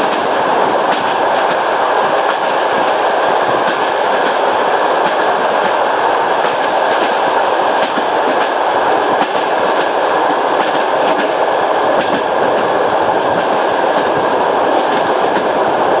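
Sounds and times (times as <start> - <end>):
train rolling rumble: 0.0 - 16.0
train wheels clacking: 0.0 - 16.0.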